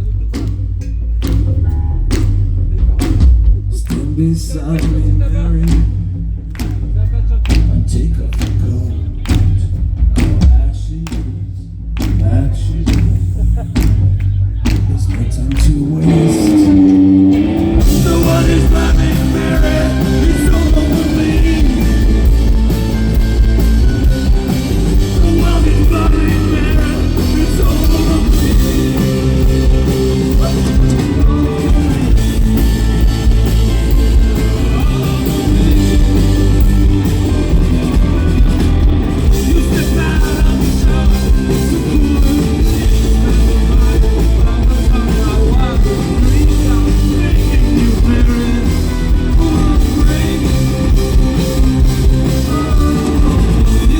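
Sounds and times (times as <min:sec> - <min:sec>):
rock band playing: 0:00.0 - 0:11.1, 0:11.9 - 0:53.9.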